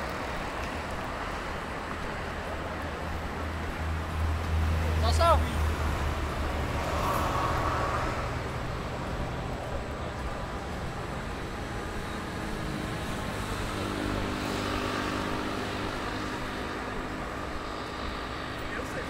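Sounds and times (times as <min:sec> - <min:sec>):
cars driving past: 0:00.0 - 0:19.0
vehicle engine hum: 0:00.0 - 0:19.0.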